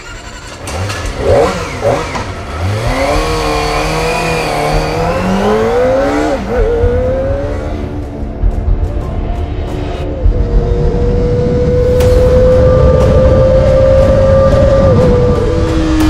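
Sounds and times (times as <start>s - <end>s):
motorcycle engine revving: 0.0s - 8.9s, 10.0s - 16.0s.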